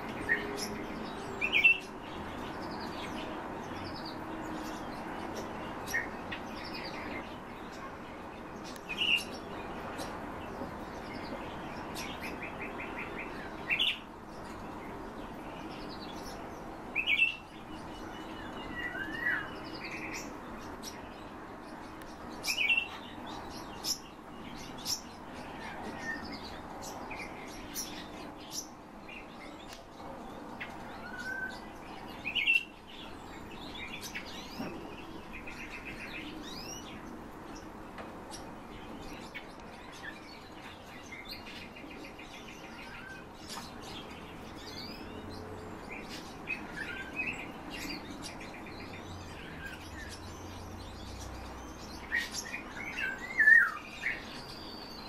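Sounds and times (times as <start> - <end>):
caged songbirds chirping: 0.0 - 55.0.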